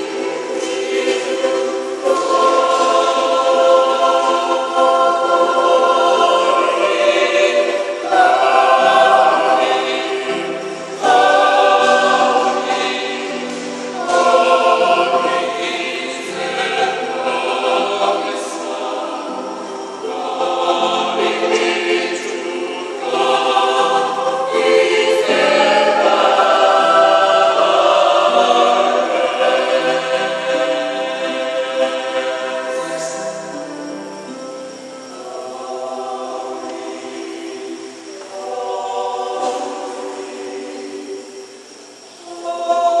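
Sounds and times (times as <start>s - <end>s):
mixed choir singing held chords: 0.0s - 43.0s.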